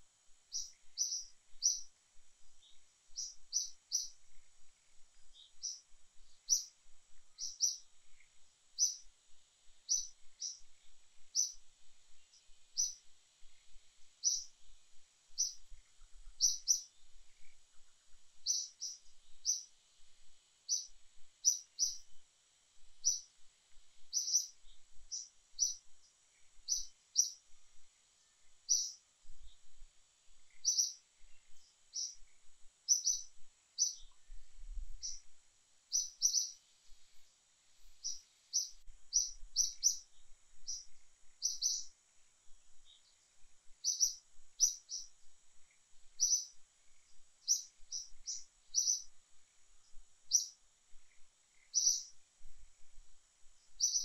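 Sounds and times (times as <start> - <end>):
faint high hum: 0.0 - 54.0
small bird chirping: 0.0 - 54.0.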